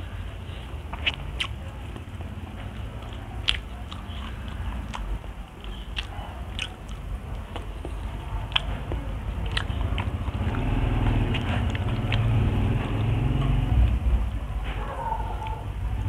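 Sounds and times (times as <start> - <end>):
chewing and biting: 0.0 - 15.6
wet mouth sounds: 0.8 - 14.0.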